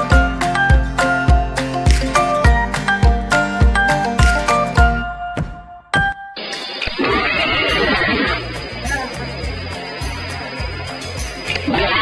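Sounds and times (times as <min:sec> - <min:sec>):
background guitar music: 0:00.0 - 0:12.0.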